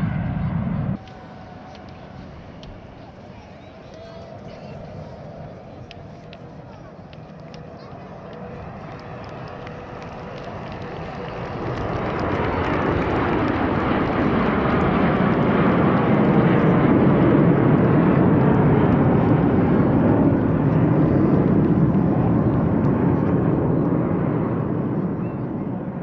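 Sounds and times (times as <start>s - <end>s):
jet aircraft roaring past: 0.0s - 26.0s.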